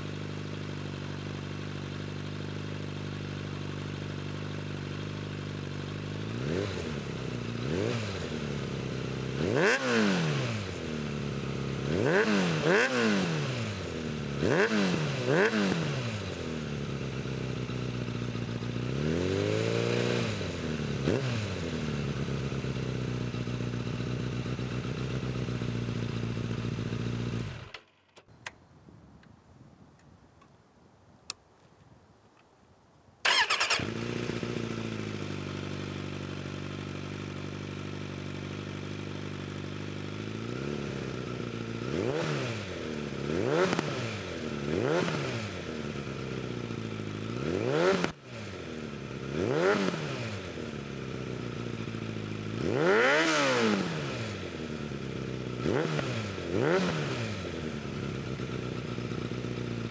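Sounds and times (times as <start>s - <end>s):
motorcycle engine idling and revving: 0.0s - 28.2s, 33.2s - 59.9s.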